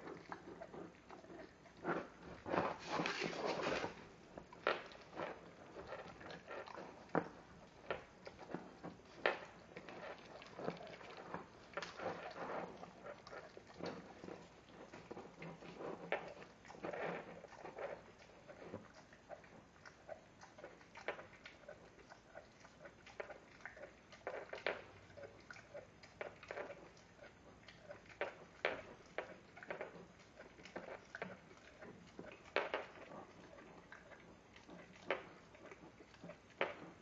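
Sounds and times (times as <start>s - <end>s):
dog teeth scraping on bone: 0.0s - 37.0s.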